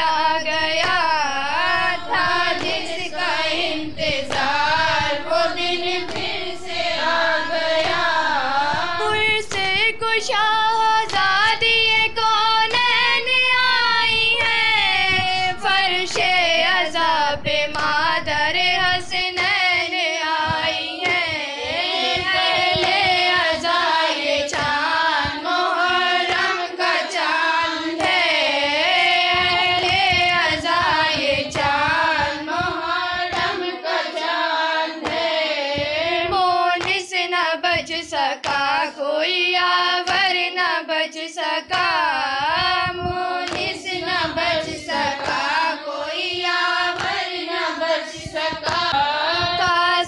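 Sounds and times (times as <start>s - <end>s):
sharp beats: 0.0s - 38.9s, 41.7s - 50.0s
woman singing a lament: 0.0s - 50.0s.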